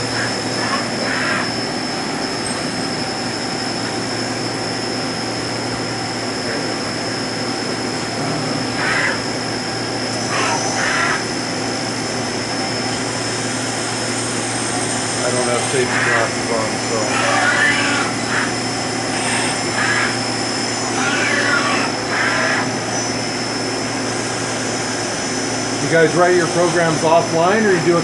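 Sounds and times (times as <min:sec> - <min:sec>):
lathe hum with high whine: 0:00.0 - 0:28.0.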